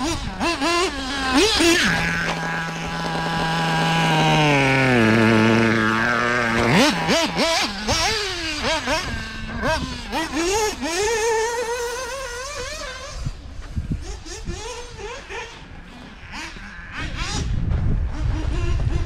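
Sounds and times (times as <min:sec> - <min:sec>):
nitro engine revving: 0:00.0 - 0:19.0.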